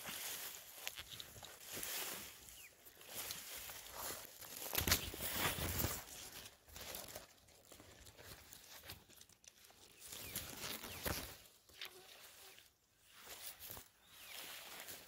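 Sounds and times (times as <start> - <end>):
grass rustling underfoot: 0.0 - 15.0.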